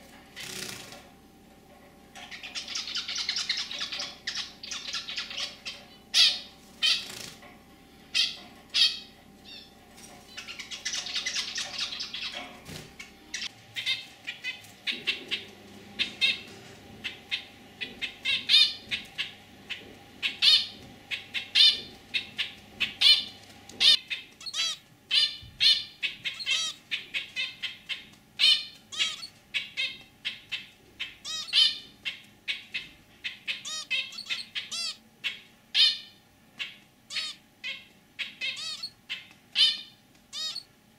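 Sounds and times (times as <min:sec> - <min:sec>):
finch beeping calls: 0:02.2 - 0:07.2, 0:08.1 - 0:40.7.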